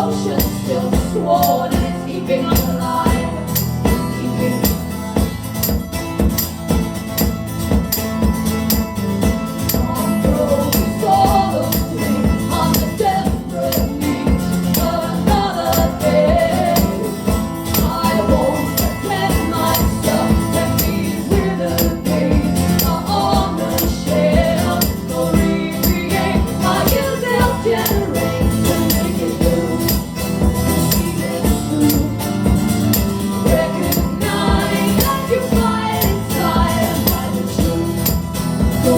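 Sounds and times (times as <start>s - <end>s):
live band playing instrumental: 0.0s - 38.9s.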